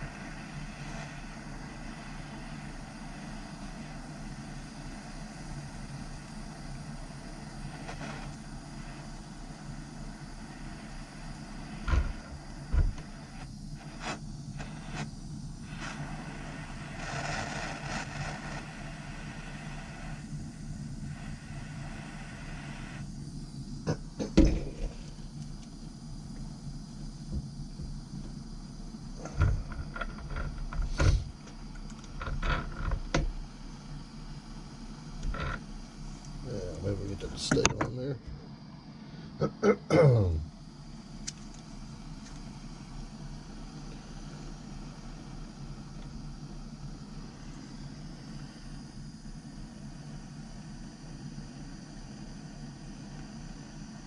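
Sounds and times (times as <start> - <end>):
torch flame rumbling: 0.0 - 54.0.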